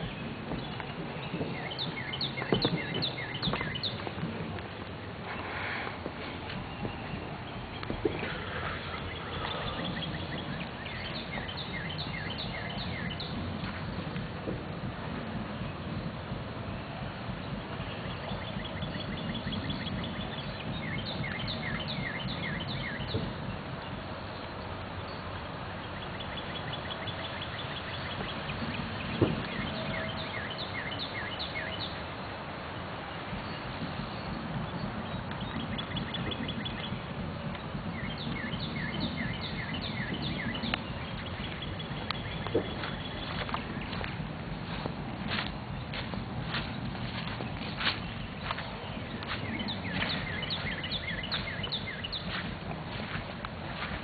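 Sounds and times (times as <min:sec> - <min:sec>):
bird singing: 0:00.0 - 0:04.3, 0:06.2 - 0:14.3, 0:17.3 - 0:54.0
songbird chirping: 0:00.0 - 0:16.1, 0:16.9 - 0:54.0
rushing water: 0:00.0 - 0:54.0.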